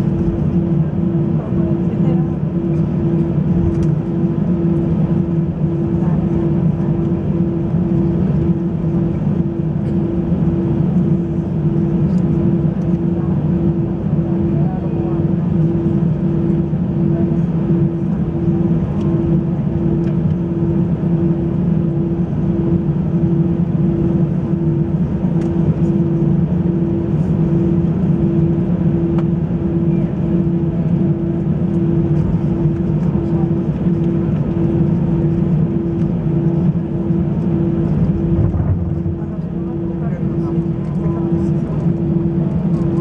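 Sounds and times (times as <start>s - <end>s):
airplane cabin engine noise: 0.0s - 43.0s
pulsing low hum: 0.0s - 43.0s.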